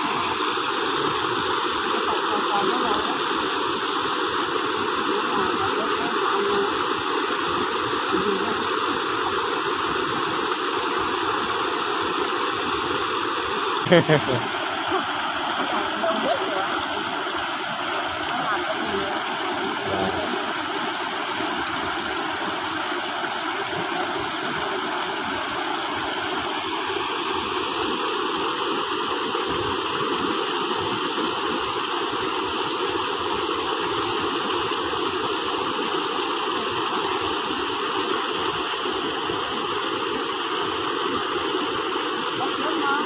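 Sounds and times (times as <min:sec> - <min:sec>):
water rushing over weir: 0:00.0 - 0:43.0.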